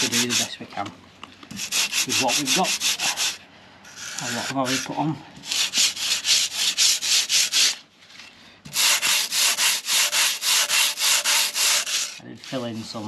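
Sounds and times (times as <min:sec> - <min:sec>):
sandpaper rubbing on filler: 0:00.0 - 0:00.6, 0:01.6 - 0:07.8, 0:08.7 - 0:13.0.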